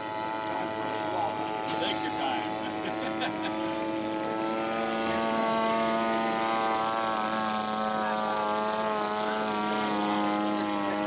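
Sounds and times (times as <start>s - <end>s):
model airplane engine droning: 0.0s - 11.0s.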